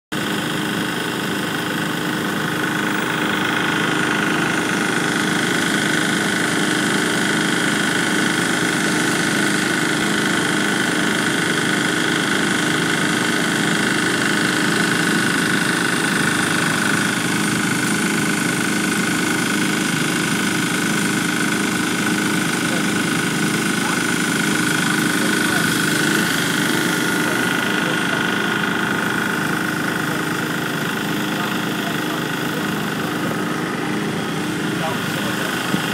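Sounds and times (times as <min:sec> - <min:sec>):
engine-driven pump droning: 0:00.1 - 0:35.9.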